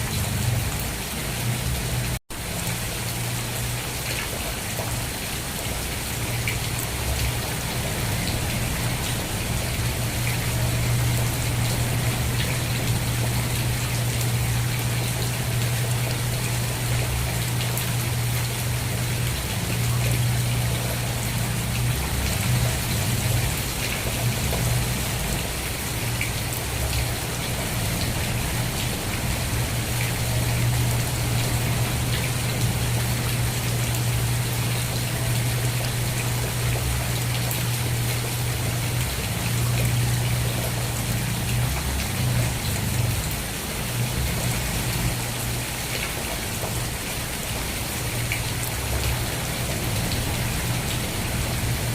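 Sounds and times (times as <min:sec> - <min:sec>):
rain pattering on surfaces: 0:00.0 - 0:51.9.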